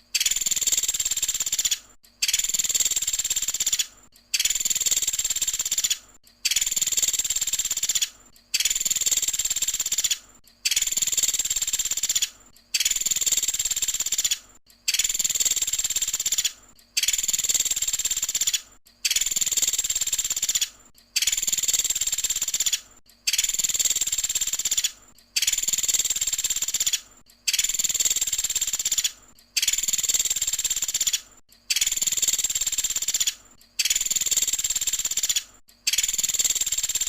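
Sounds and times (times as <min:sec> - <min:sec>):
woodpecker trilling call: 0:00.2 - 0:37.0.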